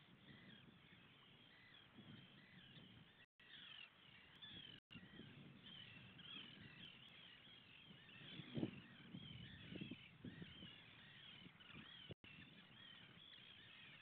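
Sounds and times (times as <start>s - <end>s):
seabirds calling: 0.0s - 14.0s.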